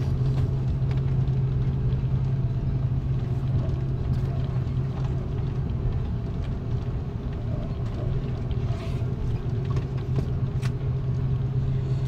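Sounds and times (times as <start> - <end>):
airplane cabin low rumble: 0.0 - 12.0.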